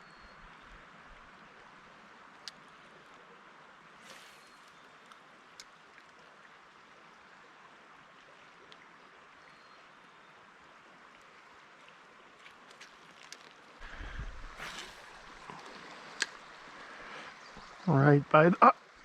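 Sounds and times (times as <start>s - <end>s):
brook water flowing: 0.0s - 19.0s.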